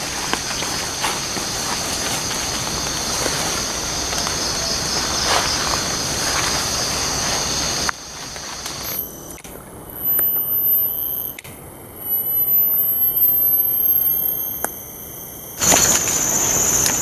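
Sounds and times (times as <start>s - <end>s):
high-pitched insect whining: 0.0s - 17.0s
steady high hiss: 0.0s - 17.0s.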